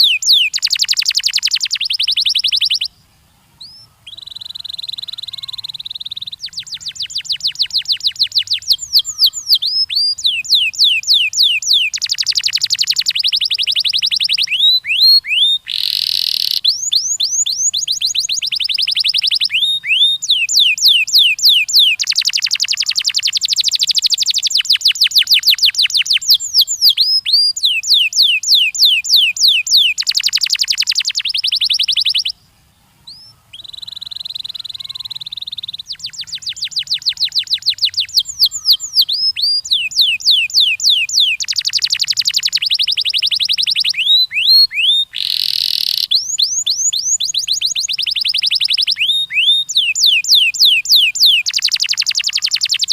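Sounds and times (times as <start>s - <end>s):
canary singing trills: 0.0s - 52.9s.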